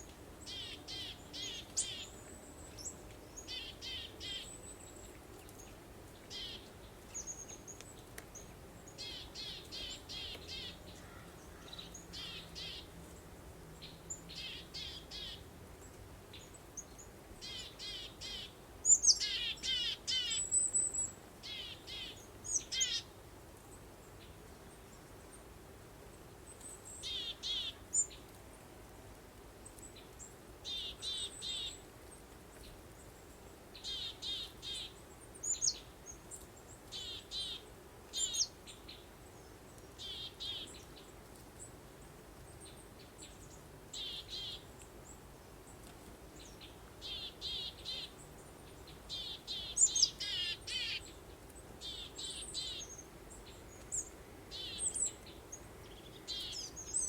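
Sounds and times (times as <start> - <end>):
small birds singing: 0.0 - 23.1, 26.1 - 28.4, 29.6 - 57.0
faint background hiss: 0.0 - 57.0.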